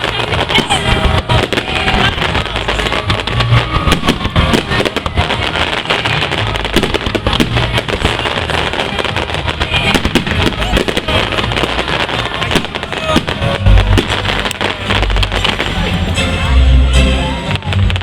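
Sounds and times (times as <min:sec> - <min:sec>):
low firework booms: 0:00.0 - 0:16.1
fireworks crackling and banging: 0:00.0 - 0:18.0.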